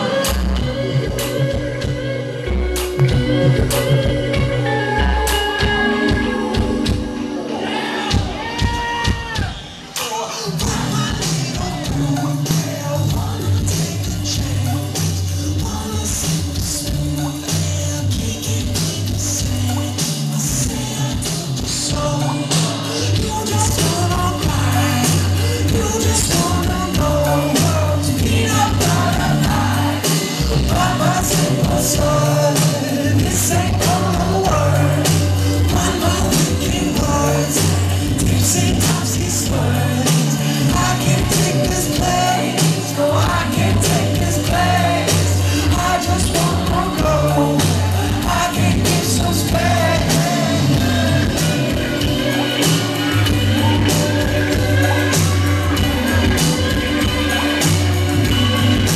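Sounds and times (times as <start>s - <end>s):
repeating bass line: 0.0s - 8.8s, 10.6s - 58.9s
live band playing: 0.0s - 58.9s
person singing: 0.0s - 58.9s.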